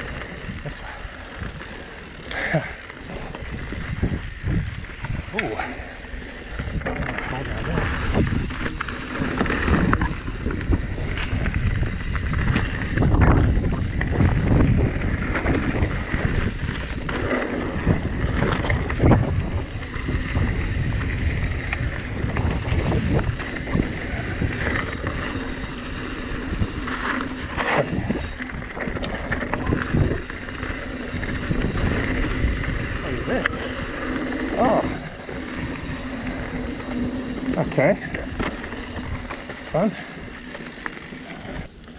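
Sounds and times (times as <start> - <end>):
wind rush on microphone: 0.0 - 41.8
bike tyres rolling over dirt: 0.0 - 41.9.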